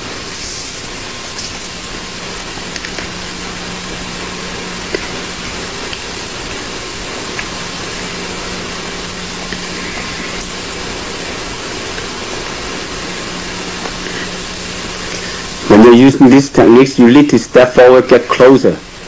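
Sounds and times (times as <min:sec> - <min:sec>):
low hum: 0:00.0 - 0:19.0
recording hiss: 0:00.0 - 0:19.0.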